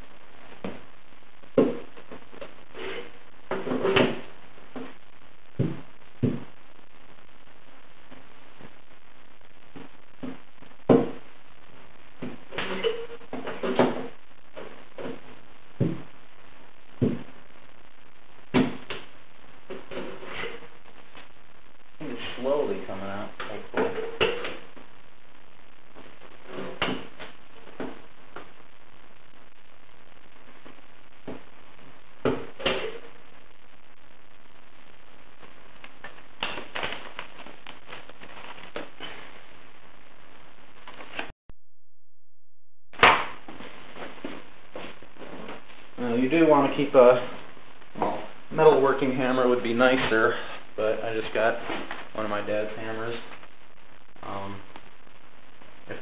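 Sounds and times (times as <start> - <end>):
steady hiss: 0.0 - 41.3, 43.0 - 56.0.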